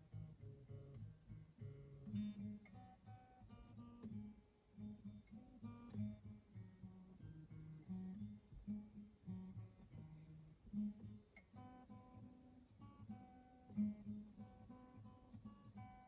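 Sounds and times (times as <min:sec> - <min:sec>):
acoustic guitar played softly: 0:00.0 - 0:16.0.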